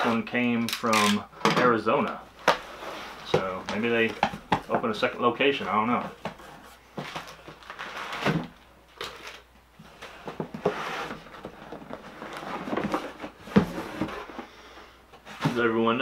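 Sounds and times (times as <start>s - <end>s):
cardboard scraping and rustling: 2.4s - 14.6s, 15.2s - 16.0s.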